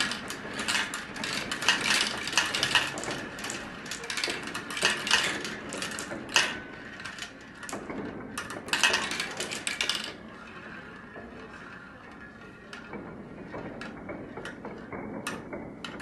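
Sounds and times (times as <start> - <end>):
marbles clattering down marble run: 0.0 - 16.0.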